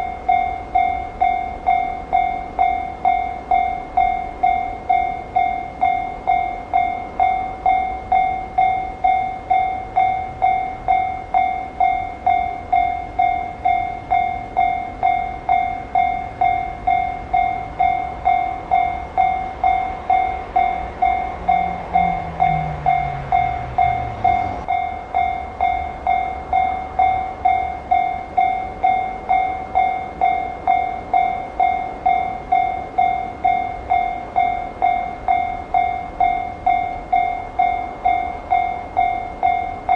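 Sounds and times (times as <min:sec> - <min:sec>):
level crossing bell ringing: 0:00.0 - 0:39.9
train passing rumble: 0:00.0 - 0:39.9.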